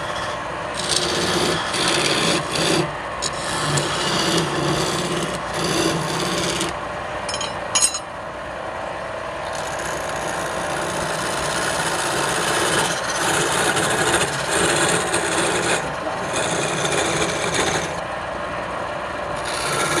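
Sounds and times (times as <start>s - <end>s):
lathe tool scraping wood: 0.0s - 6.8s, 9.4s - 18.0s, 19.4s - 20.0s.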